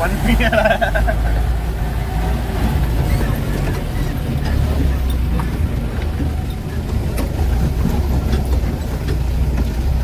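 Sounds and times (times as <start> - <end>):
engine droning: 0.0 - 10.0
vehicle knocking and rattling: 0.6 - 10.0.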